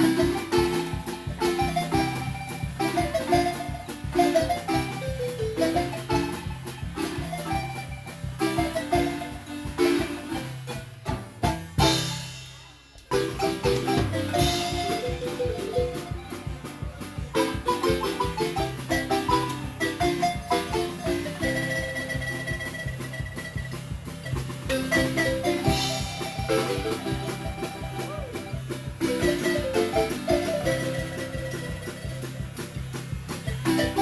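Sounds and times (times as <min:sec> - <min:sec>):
marimba ensemble playing: 0:00.0 - 0:34.0.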